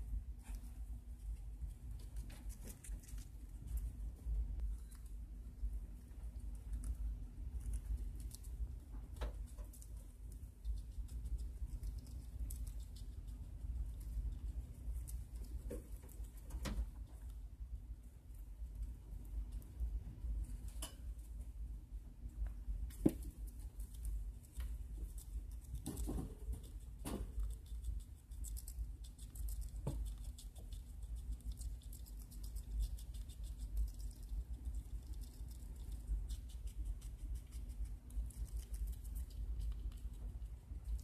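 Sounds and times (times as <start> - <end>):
rat chewing with crunching clicks: 0.0 - 41.0
steady low hum: 0.0 - 41.0.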